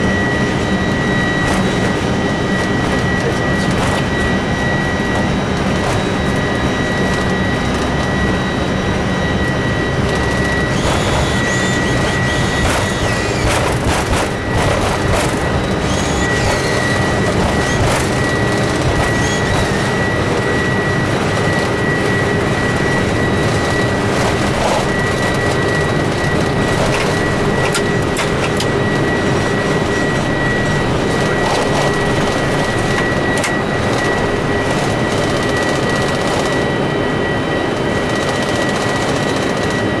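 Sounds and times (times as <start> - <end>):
jet engines and rushing air: 0.0 - 40.0
thin steady whine: 0.0 - 40.0.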